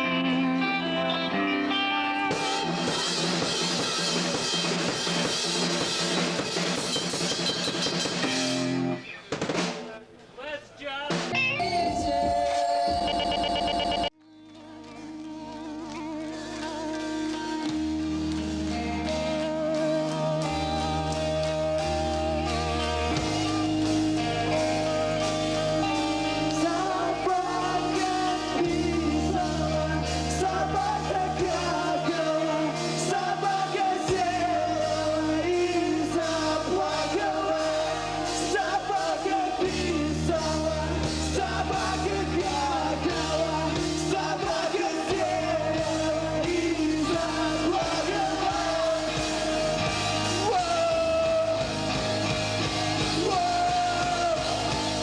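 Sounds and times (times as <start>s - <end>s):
rock band playing live: 0.0s - 9.9s, 11.1s - 14.1s, 15.2s - 55.0s.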